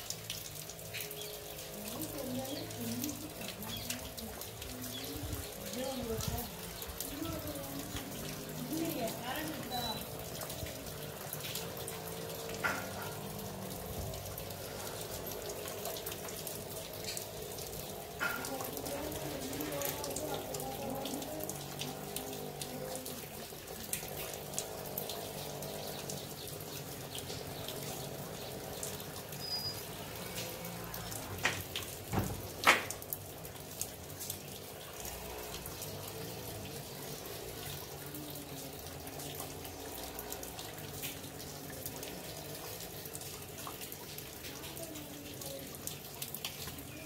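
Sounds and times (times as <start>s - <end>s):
rainwater pouring and splashing: 0.0s - 47.0s.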